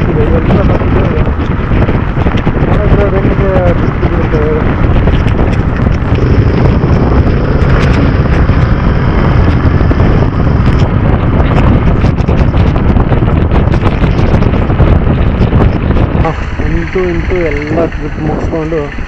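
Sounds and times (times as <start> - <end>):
motorcycle running: 0.0 - 19.0
wind rush on microphone: 0.0 - 19.0.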